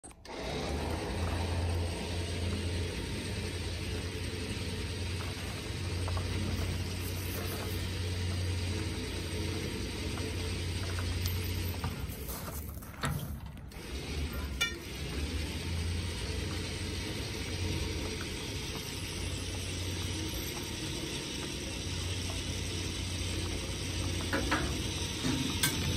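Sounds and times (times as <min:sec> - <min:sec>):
winch gears grinding: 0:00.0 - 0:25.9.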